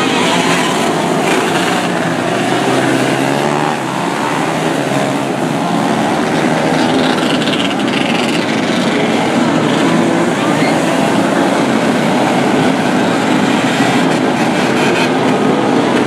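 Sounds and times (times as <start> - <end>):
small race car engines: 0.0 - 16.0.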